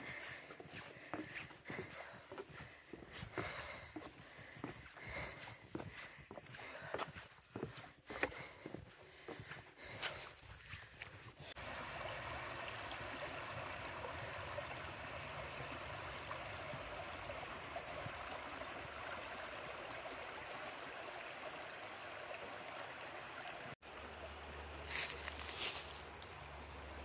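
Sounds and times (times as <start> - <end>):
creek water flowing: 0.0 - 27.0.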